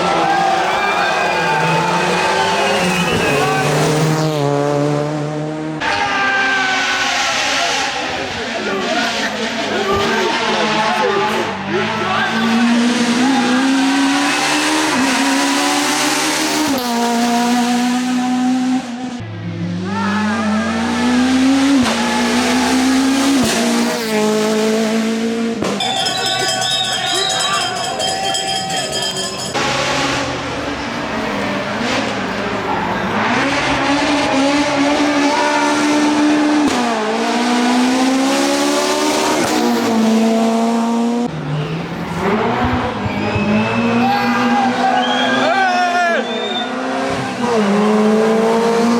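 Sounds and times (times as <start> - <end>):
rally car engine revving: 0.0 - 26.1, 29.0 - 45.6, 46.2 - 48.9.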